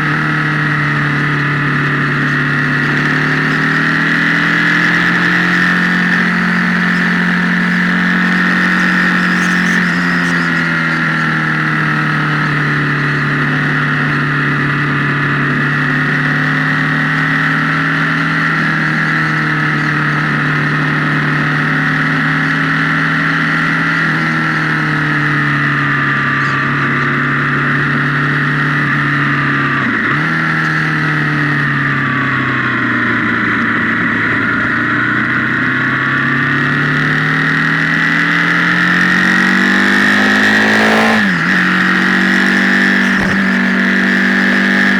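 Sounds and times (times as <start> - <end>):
distorted motorcycle engine running: 0.0 - 44.9.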